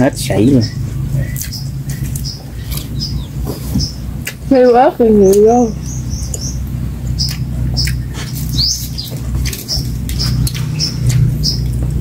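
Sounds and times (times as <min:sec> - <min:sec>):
small bird chirping: 0:00.0 - 0:12.0
steady low hum: 0:00.0 - 0:12.0
people chewing food: 0:00.1 - 0:12.0.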